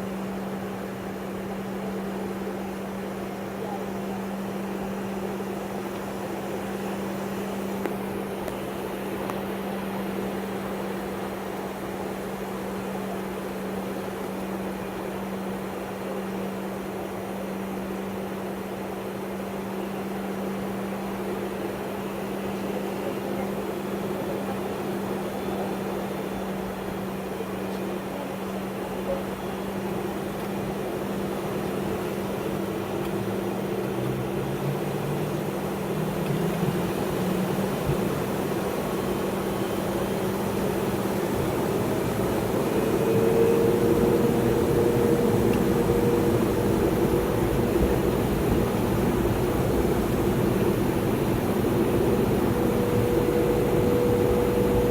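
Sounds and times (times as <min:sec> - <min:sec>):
airliner cabin engine hum: 0:00.0 - 0:54.9.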